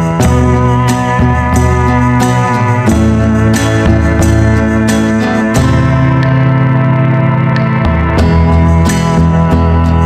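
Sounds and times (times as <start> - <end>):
instrumental music with plucked notes: 0.0 - 10.0.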